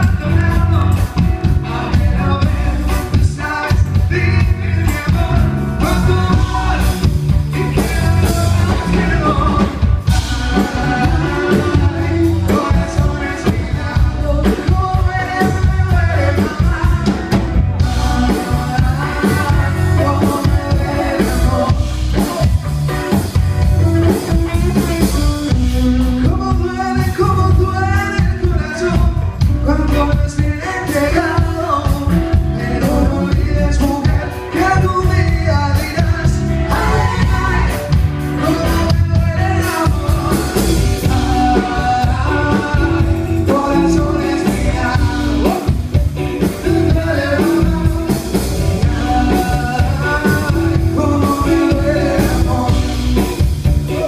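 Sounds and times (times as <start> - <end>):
drum kit: 0.0 - 54.0
electric guitar: 0.0 - 54.0
man singing lead vocal: 0.0 - 54.0.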